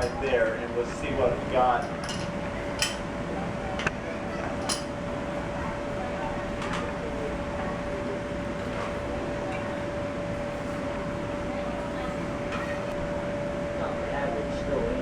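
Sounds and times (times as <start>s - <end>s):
carousel drive whining: 0.0s - 15.0s.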